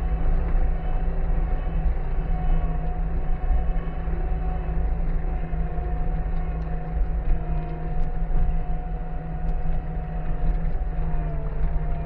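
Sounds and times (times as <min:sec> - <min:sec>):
skid steer engine running: 0:00.0 - 0:12.0
steady whine: 0:00.0 - 0:12.0.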